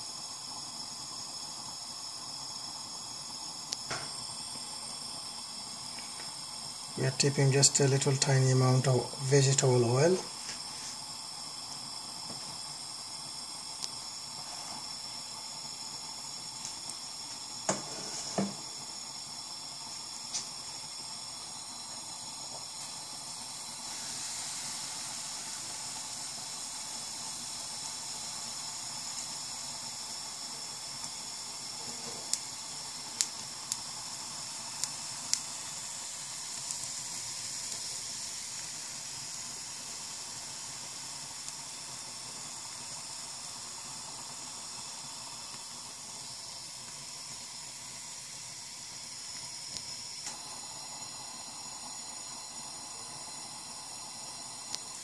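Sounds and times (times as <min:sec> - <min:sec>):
oil sizzling in a pan: 0:00.0 - 0:55.0
pancake batter sizzling: 0:00.0 - 0:55.0.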